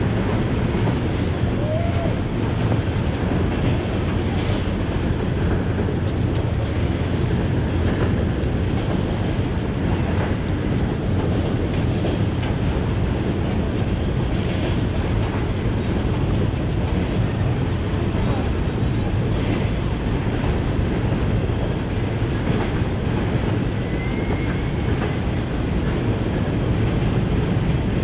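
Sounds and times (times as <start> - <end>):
train wheels rumbling on bridge: 0.0 - 28.0.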